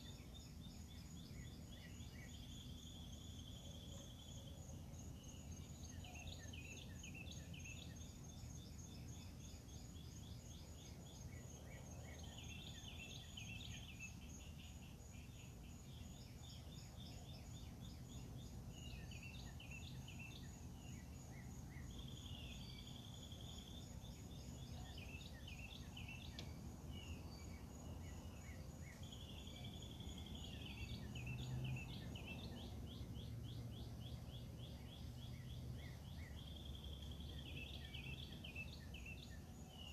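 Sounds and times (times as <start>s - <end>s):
birds singing and calling: 5.1s - 39.9s.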